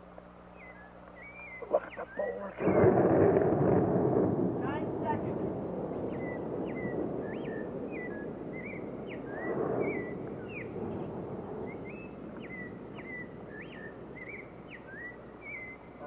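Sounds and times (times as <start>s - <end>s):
short high chirping calls: 0.5s - 3.4s, 4.3s - 16.0s
volcano rumbling: 2.5s - 16.0s.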